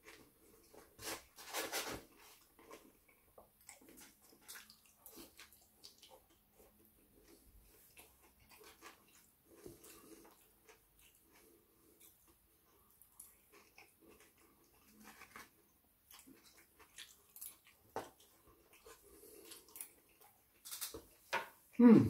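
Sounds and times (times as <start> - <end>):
person chewing food: 0.0 - 21.8.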